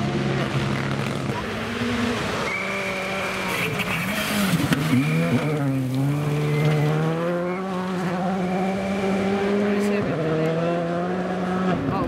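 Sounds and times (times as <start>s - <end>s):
rally car engine at full load: 0.0s - 12.0s.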